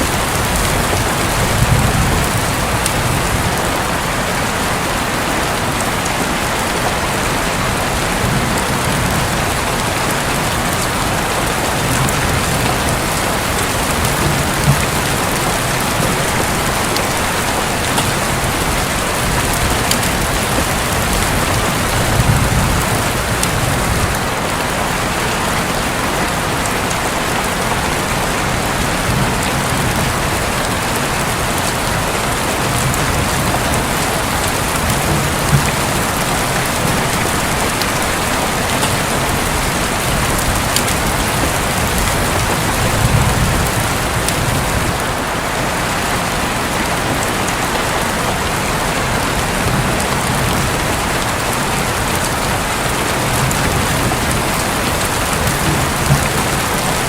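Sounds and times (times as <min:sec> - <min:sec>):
thunder rumbling: 0:00.0 - 0:04.8, 0:07.2 - 0:24.9, 0:27.0 - 0:45.2, 0:48.8 - 0:57.0
heavy rain on a roof: 0:00.0 - 0:57.0.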